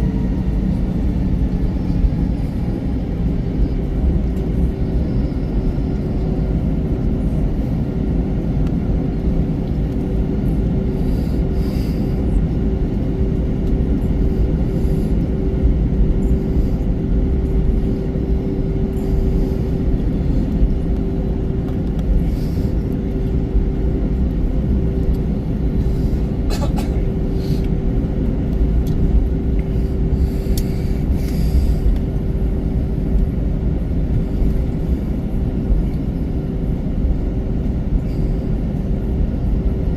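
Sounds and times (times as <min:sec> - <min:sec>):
airliner engines rumbling: 0:00.0 - 0:39.9.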